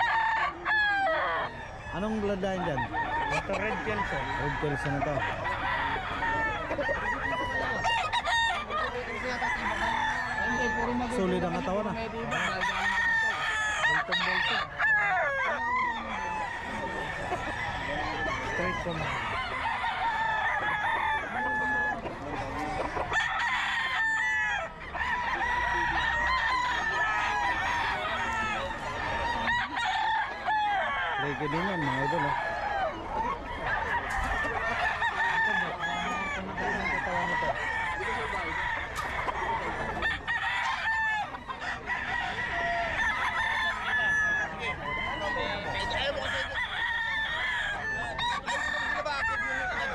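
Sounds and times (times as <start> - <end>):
chicken clucking: 0.0 - 49.9
roosters crowing: 0.0 - 49.9.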